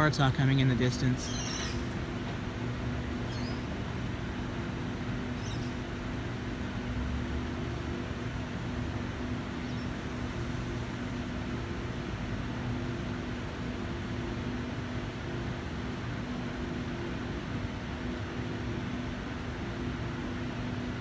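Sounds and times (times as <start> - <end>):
urban rail rumble: 0.0 - 21.0.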